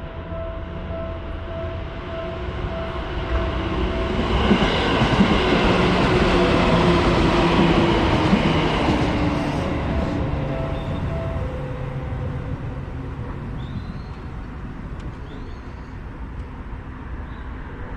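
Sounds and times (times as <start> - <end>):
crossing warning bell ringing: 0.0 - 14.9
train passing with wheel clacks: 0.7 - 17.9.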